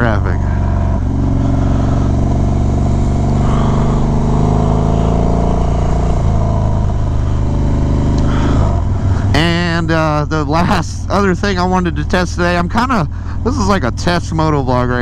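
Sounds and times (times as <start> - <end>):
motorcycle engine: 0.0 - 15.0
wind and road noise: 0.0 - 15.0.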